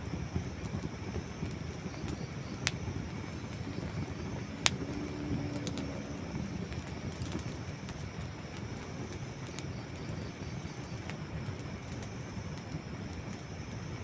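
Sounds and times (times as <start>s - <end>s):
campfire rumble: 0.0s - 14.0s
campfire sharp pops: 0.0s - 14.0s.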